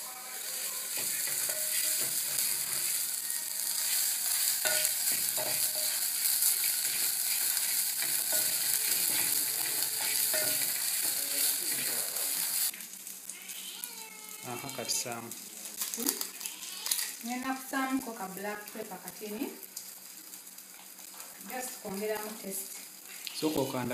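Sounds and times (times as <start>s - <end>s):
insects sizzling in a pan: 0.0s - 23.9s.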